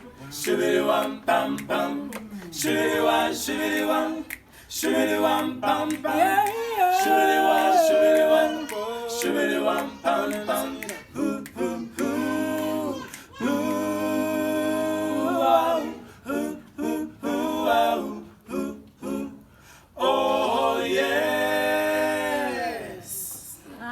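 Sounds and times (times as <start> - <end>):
a cappella group singing harmony: 0.0 - 23.9.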